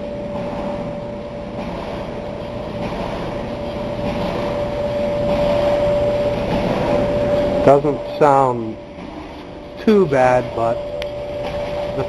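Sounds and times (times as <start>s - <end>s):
clothes dryer running: 0.0s - 12.0s.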